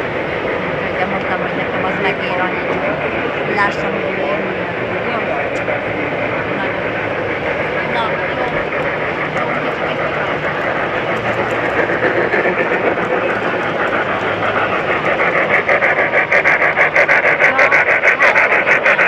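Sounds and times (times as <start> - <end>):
model steam locomotive chuffing: 0.0 - 19.0
steady rush of noise: 0.0 - 19.0.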